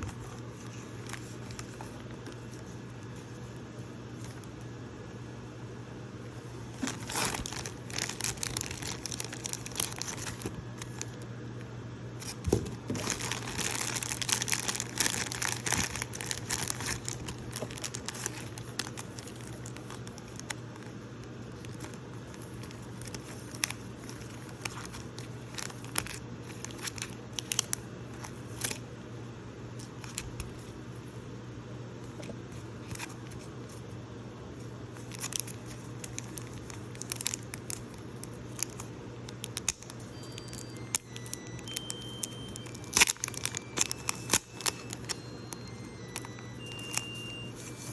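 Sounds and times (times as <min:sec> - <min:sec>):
packaging crinkling and rustling: 0:00.0 - 0:04.6, 0:06.7 - 0:11.3, 0:12.2 - 0:28.8, 0:29.8 - 0:30.8, 0:32.1 - 0:33.8, 0:34.9 - 0:47.9
steady low hum: 0:00.0 - 0:47.9.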